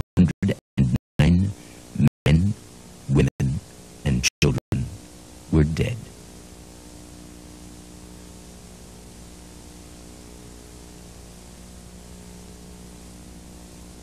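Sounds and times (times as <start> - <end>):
low electrical hum: 0.2 - 14.0
steady hiss: 0.5 - 14.0.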